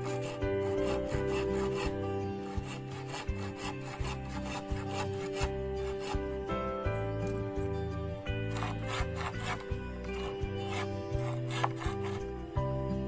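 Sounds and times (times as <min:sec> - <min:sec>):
hand saw cutting bamboo: 0:00.0 - 0:12.6
background music: 0:00.0 - 0:13.0.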